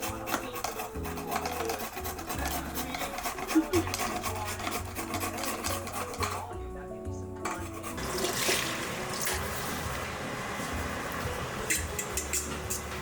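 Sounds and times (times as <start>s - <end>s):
kitchen handling noise: 0.0s - 6.5s, 7.4s - 10.0s, 10.7s - 13.0s
soft background music: 0.0s - 13.0s.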